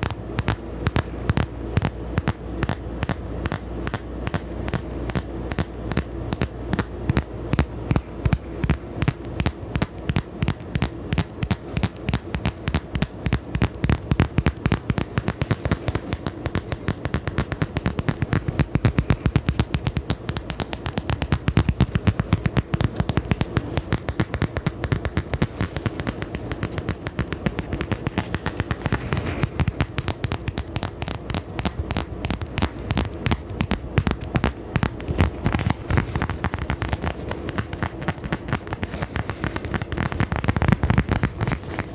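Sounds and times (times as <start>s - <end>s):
sharp tapping and clicks: 0.0s - 41.9s
steady low hum: 0.0s - 41.9s.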